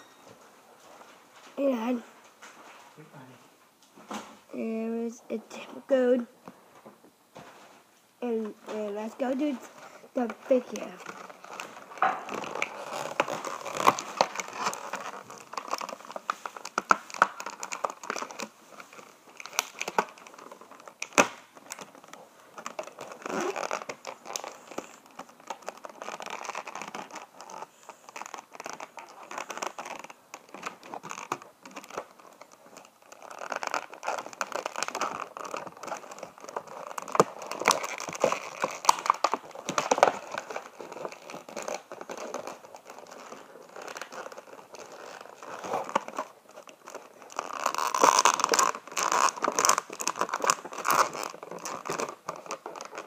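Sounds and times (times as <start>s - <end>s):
plastic packaging crinkling: 7.4s - 53.0s.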